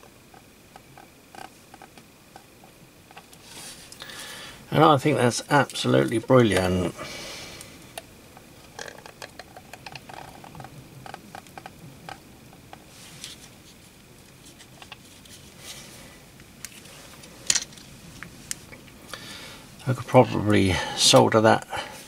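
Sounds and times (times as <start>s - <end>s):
solder flux hissing and crackling: 0.0s - 22.0s.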